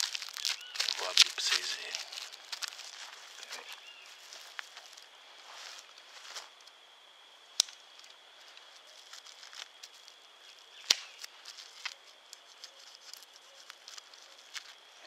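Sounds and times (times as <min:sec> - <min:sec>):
faint handling ticks: 0:00.0 - 0:05.0, 0:07.6 - 0:15.0
rustling of tape and plastic: 0:00.0 - 0:06.5, 0:07.6 - 0:15.0.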